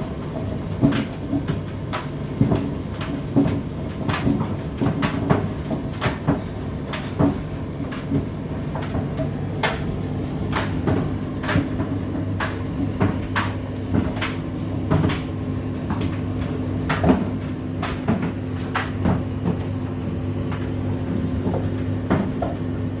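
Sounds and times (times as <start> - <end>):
tumble dryer motor hum: 0.0 - 23.0.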